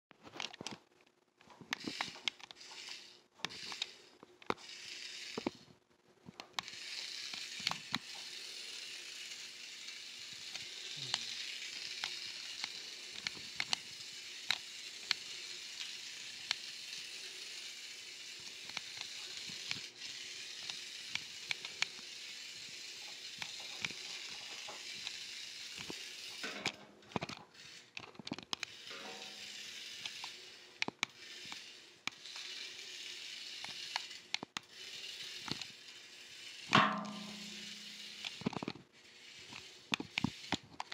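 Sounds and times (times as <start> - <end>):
toy clicking on concrete floor: 0.4 - 40.9.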